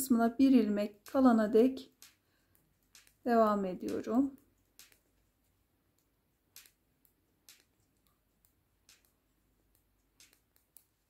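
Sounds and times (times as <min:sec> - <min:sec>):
knitting needles clicking: 0:00.0 - 0:11.0.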